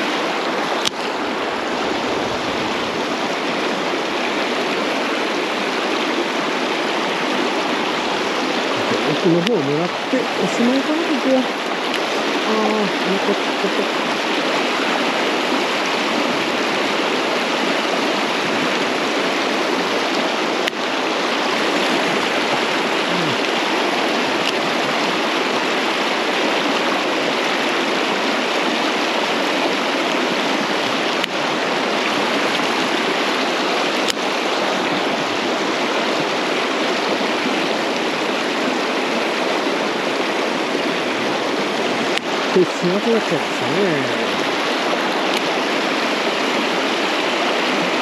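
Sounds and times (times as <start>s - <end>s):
stream rushing over rocks: 0.0s - 48.0s.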